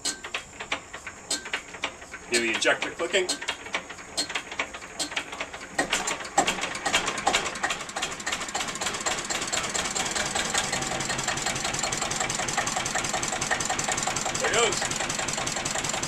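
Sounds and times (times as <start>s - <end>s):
fuel injector clicking: 0.0s - 15.9s
diesel engine knocking: 0.0s - 16.0s.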